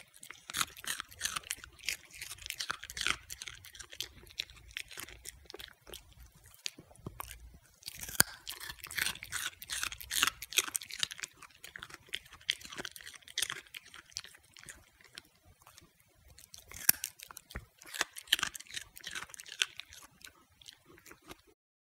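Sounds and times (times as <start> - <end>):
dog crunching a raw carrot: 0.0 - 21.6.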